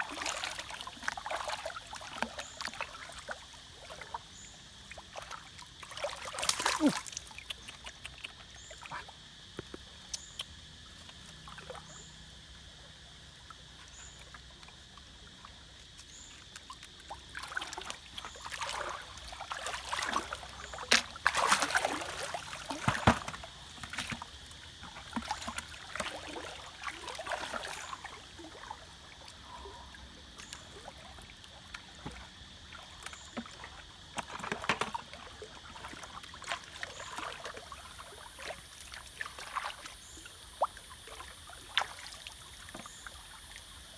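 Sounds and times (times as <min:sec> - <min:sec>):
water splashing and sloshing: 0:00.0 - 0:43.9.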